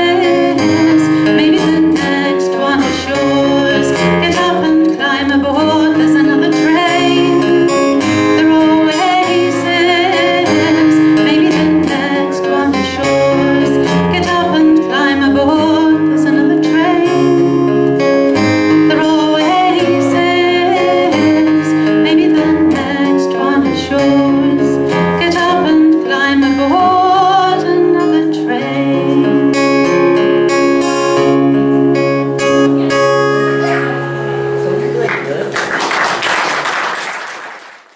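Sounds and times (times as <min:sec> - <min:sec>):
woman singing folk song: 0:00.0 - 0:30.5
strummed acoustic guitar: 0:00.0 - 0:35.5.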